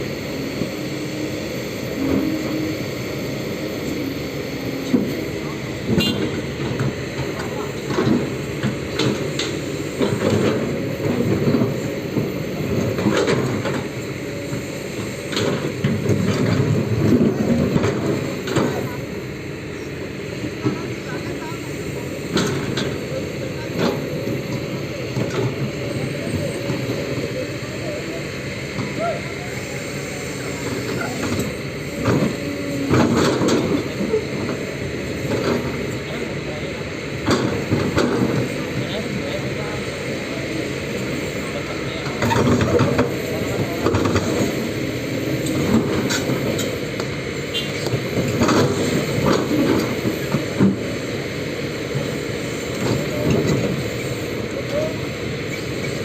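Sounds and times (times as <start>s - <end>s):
excavator diesel rumble: 0.0s - 56.0s.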